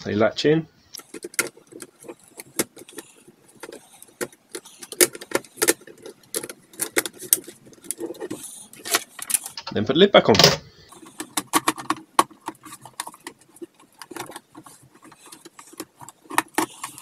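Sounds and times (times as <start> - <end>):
plastic clicks and metal knocks: 1.0 - 9.8, 10.4 - 17.0.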